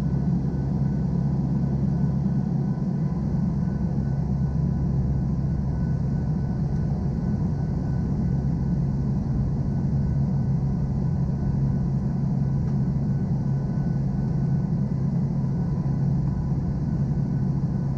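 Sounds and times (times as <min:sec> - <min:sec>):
aircraft engines deep hum: 0:00.0 - 0:17.9.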